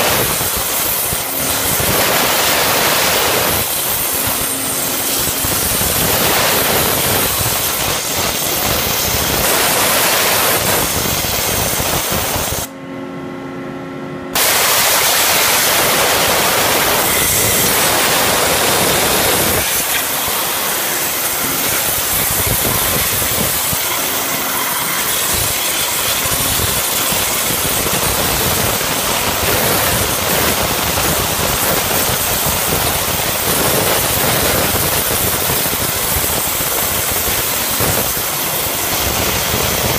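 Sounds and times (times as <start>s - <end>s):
waterjet cutting metal hiss: 0.0s - 12.7s, 14.4s - 39.9s
machine hum with steady tones: 0.0s - 39.9s.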